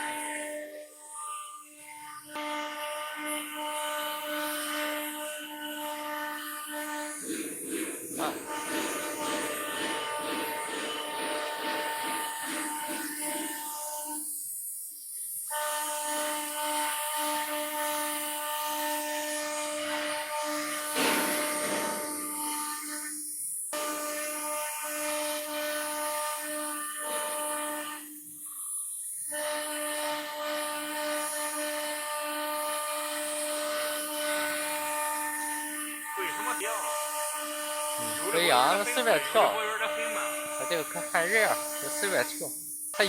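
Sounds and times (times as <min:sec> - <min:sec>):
cnc router running: 0:00.0 - 0:28.4, 0:29.0 - 0:43.0.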